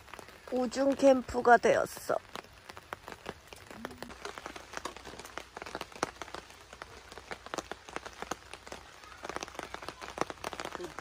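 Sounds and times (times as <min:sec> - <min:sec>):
faint hiss of rain: 0:00.0 - 0:11.0
rain drops ticking on tarp: 0:00.0 - 0:11.0.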